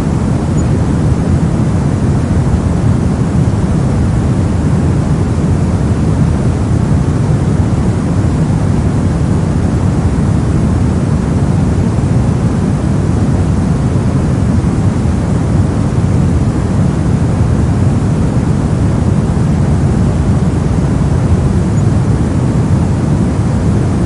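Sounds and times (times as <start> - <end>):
brown noise: 0.0 - 24.0.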